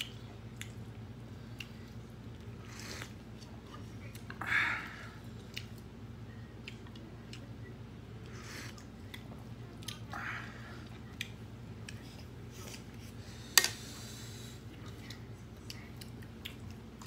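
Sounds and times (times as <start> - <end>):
chewing with mouth clicks: 0.0 - 4.4, 5.2 - 10.2, 10.8 - 12.9, 14.7 - 17.0
low steady hum: 0.0 - 17.0.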